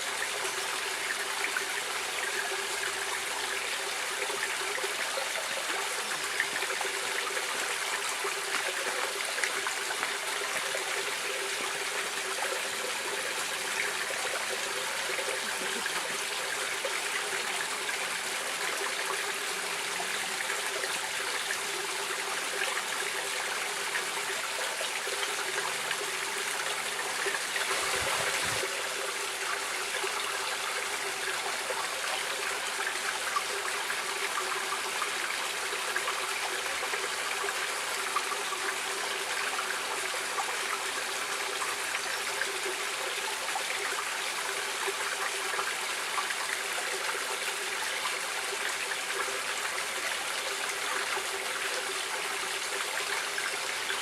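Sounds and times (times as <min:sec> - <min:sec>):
stream rushing and trickling: 0:00.0 - 0:54.0.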